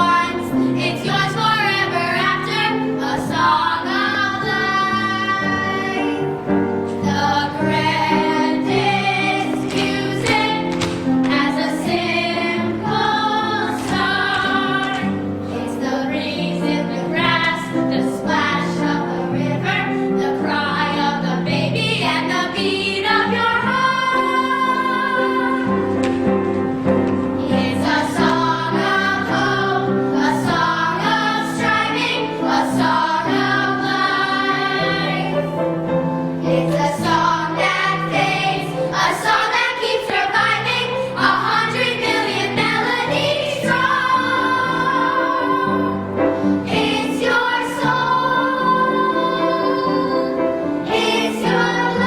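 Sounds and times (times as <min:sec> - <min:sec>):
children's choir singing: 0:00.0 - 0:52.0
instrumental accompaniment: 0:00.0 - 0:52.0.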